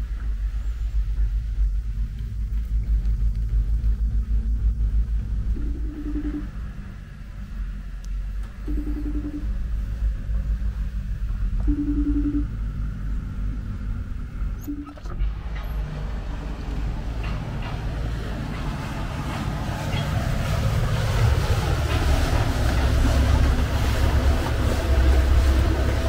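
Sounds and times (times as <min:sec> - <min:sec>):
motorboat engines droning: 0:00.0 - 0:26.0
boat wake rushing: 0:05.0 - 0:26.0.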